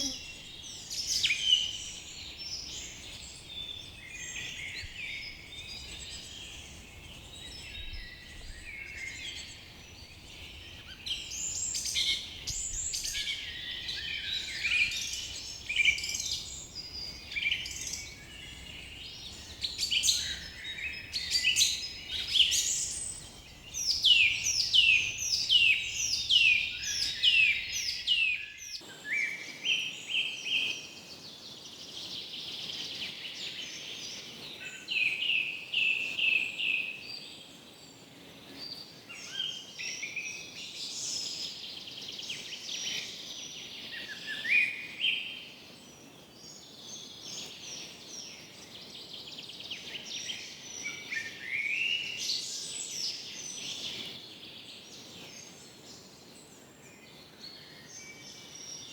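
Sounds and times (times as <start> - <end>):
birds singing: 0.0 - 58.9.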